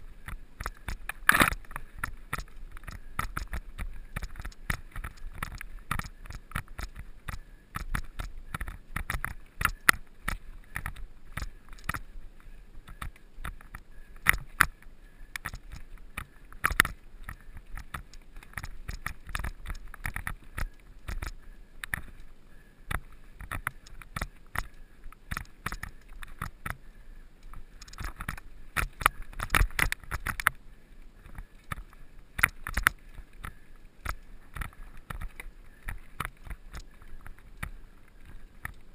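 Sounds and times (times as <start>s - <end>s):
bike rattling over rough ground: 0.0s - 22.3s, 22.9s - 38.9s.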